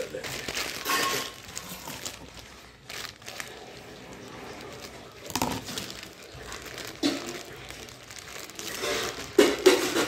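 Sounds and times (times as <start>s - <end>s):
plastic mailer bag crinkling: 0.0s - 10.0s.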